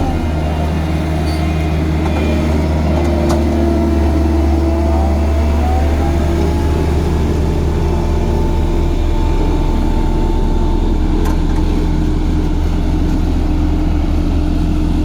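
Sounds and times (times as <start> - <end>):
heavy machine engine humming: 0.0 - 15.0.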